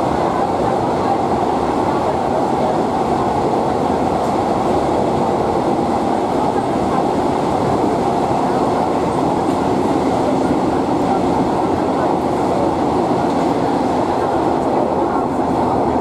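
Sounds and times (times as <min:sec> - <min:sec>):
diesel train engine running: 0:00.0 - 0:16.0.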